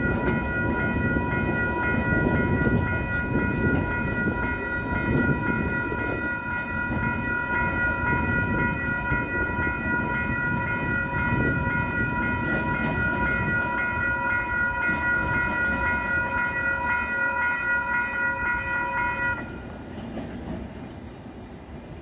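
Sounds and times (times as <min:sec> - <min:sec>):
level crossing warning bell: 0:00.0 - 0:19.9.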